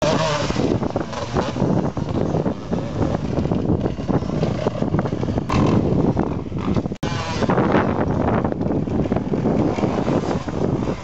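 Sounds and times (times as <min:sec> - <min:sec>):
motocross bike engines revving: 0:00.0 - 0:11.0
wind noise on microphone: 0:00.0 - 0:11.0.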